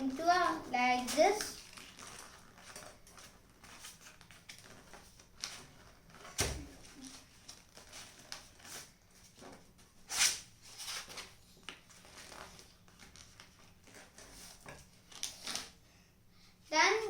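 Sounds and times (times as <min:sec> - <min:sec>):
paper rustling and crinkling: 0:00.0 - 0:15.8.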